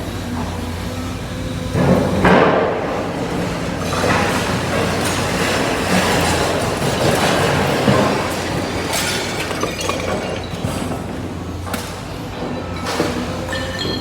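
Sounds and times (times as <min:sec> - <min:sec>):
junk grinding and clattering: 0:01.7 - 0:14.0.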